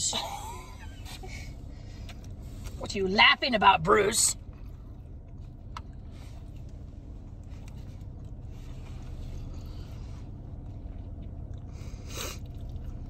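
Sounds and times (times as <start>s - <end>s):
car cabin engine rumble: 0.0s - 13.0s.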